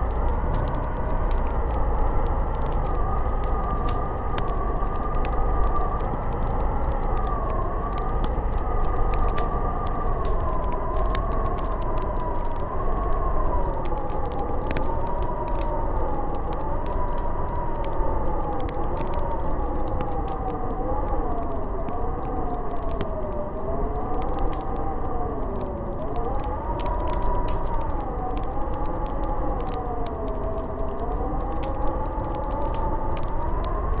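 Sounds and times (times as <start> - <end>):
crackling ticks: 0.0 - 34.0
wind howling and whistling: 0.0 - 34.0.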